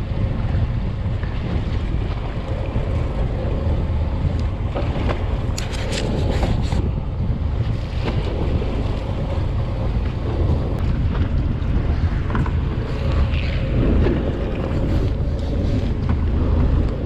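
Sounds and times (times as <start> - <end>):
boat engine rumbling: 0.0 - 17.0
wind buffeting microphone: 0.0 - 17.0.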